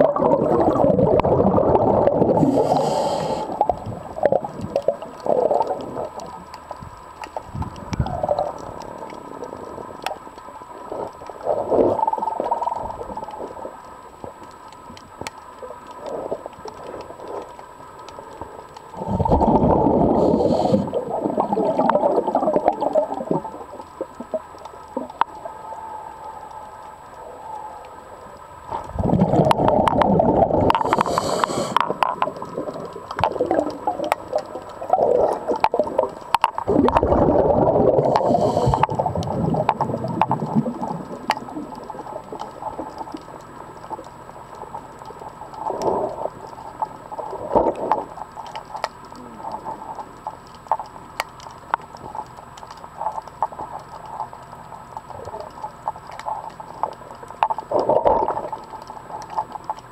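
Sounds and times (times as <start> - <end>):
faint underwater clicks: 0.0 - 59.9
underwater bubbling rush: 0.0 - 59.9.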